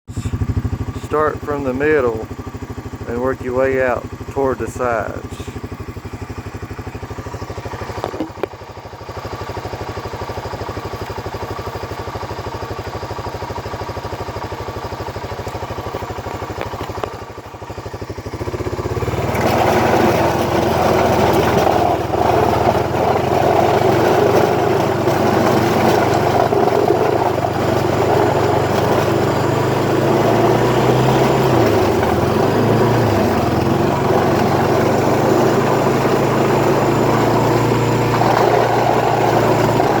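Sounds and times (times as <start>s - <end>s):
quad bike engine: 0.1s - 40.0s.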